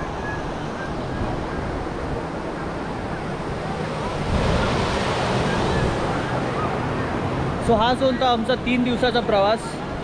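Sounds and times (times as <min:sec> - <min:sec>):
waves breaking on a beach: 0:00.0 - 0:10.0.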